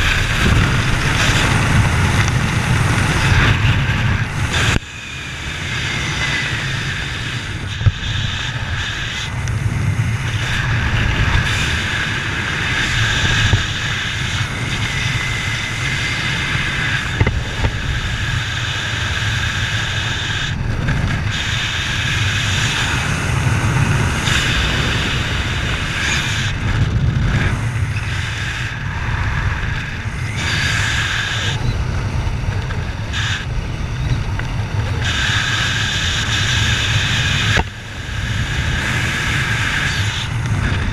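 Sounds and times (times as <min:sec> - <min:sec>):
vehicle low drone: 0:00.0 - 0:40.9
wind noise: 0:00.0 - 0:40.9.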